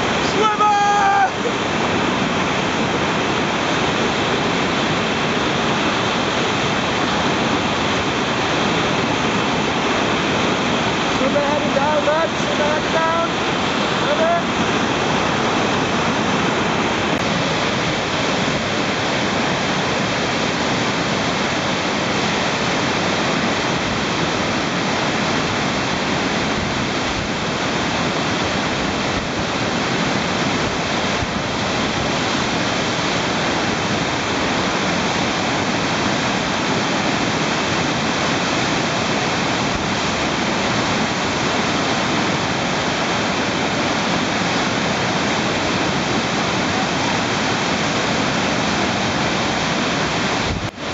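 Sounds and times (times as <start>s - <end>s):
whitewater rapids rushing: 0.0s - 50.9s.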